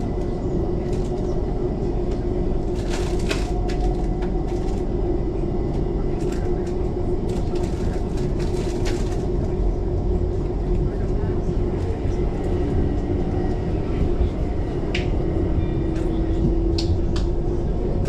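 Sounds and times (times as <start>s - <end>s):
train rumble and hum inside carriage: 0.0s - 18.0s.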